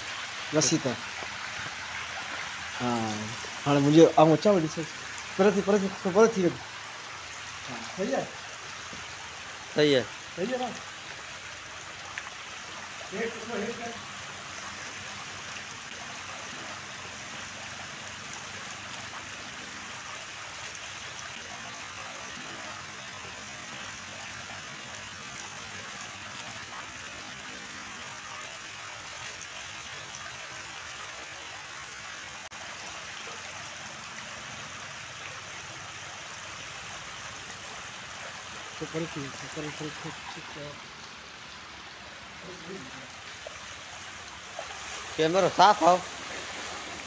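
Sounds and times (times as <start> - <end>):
water rushing down a spillway: 0.0 - 47.0.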